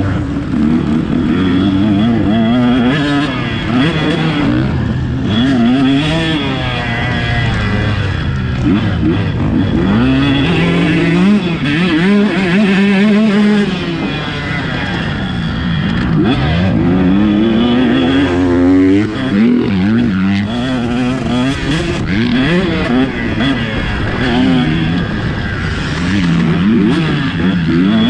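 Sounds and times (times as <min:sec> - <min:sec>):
motocross engine revving: 0:00.0 - 0:28.0.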